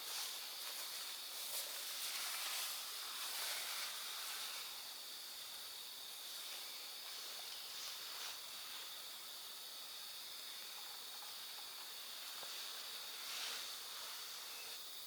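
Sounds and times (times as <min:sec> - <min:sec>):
cicadas droning: 0:00.0 - 0:15.0
soft background hiss: 0:00.0 - 0:15.0.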